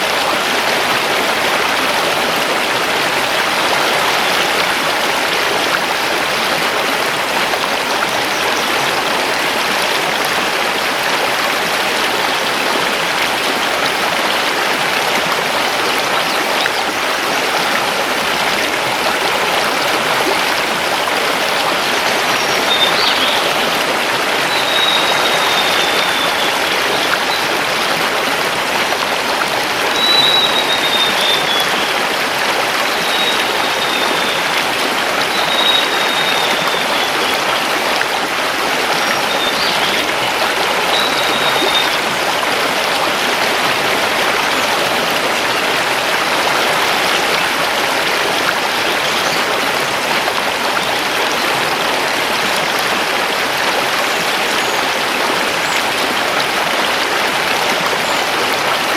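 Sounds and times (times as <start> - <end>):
river rushing over stones: 0.0 - 58.9.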